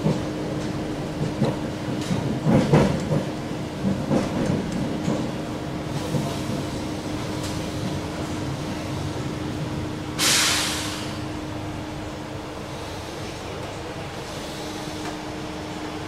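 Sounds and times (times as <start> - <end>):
train motor hum: 0.0 - 16.0
wheel-on-rail rumble: 0.0 - 16.0.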